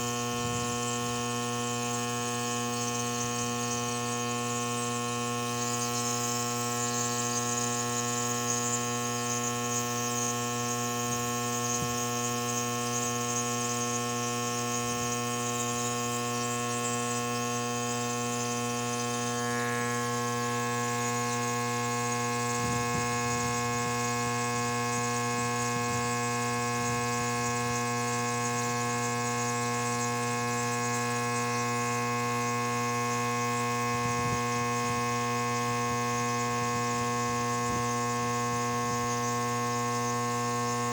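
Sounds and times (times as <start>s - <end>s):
air compressor buzzing hum: 0.0s - 40.9s.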